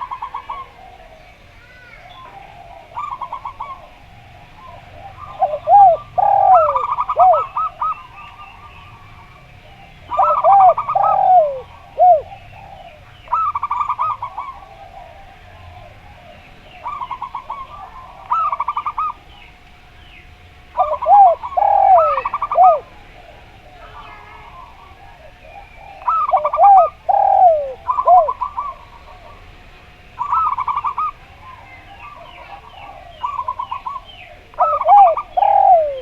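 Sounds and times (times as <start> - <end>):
deep downsweeping dove coos: 0.0 - 36.0
dove trilled cooing: 0.0 - 36.0.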